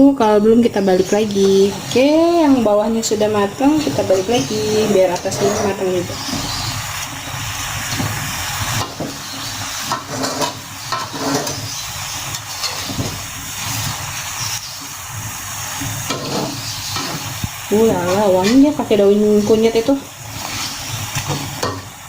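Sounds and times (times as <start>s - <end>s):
fish sizzling in a pan: 0.3s - 22.0s
utensil scraping a pan: 0.9s - 6.9s, 7.9s - 15.0s, 15.8s - 21.8s.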